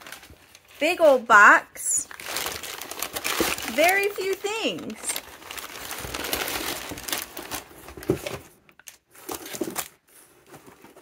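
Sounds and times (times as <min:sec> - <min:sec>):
packing paper crinkling: 0:00.0 - 0:01.2, 0:02.0 - 0:11.0.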